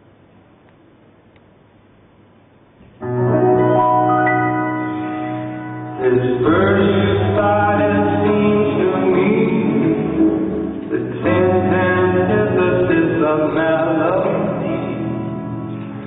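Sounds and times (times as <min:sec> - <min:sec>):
music with sustained chords: 0:03.0 - 0:16.0.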